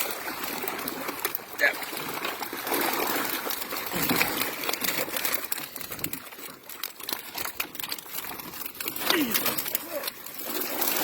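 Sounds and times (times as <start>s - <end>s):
fish thrashing in a net: 0.0s - 11.0s
water splashing and dripping: 0.0s - 11.0s.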